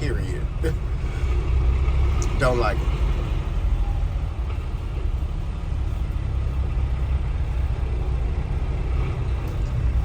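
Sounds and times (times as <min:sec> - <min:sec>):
truck engine droning: 0:00.0 - 0:10.0.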